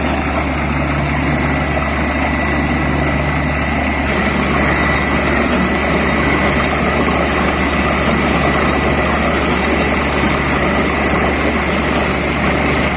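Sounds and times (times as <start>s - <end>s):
drilling rig engine drone: 0.0s - 12.9s
thin steady whine: 0.0s - 12.9s.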